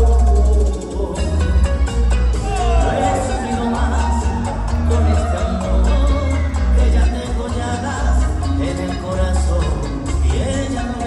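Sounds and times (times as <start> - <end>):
bachata music with heavy bass: 0.0 - 11.0.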